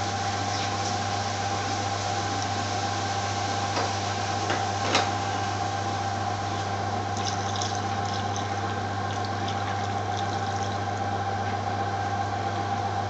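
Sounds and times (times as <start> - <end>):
kitchen hum and hiss: 0.0 - 13.0.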